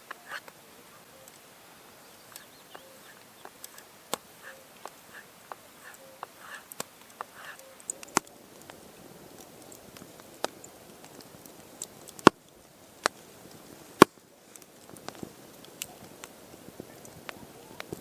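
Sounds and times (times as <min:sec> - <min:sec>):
faint steady hiss: 0:00.0 - 0:18.0
sharp clicks and cracks: 0:02.2 - 0:18.0.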